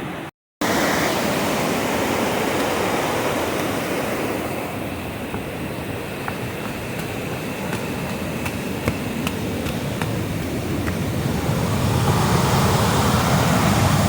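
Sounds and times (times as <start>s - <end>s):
rushing creek water: 0.6s - 14.0s.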